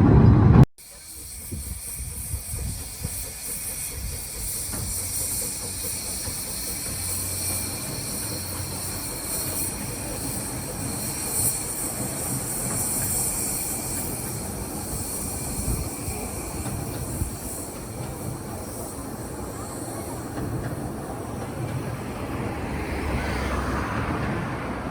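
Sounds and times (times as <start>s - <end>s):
train rumbling on track: 0.0s - 24.9s.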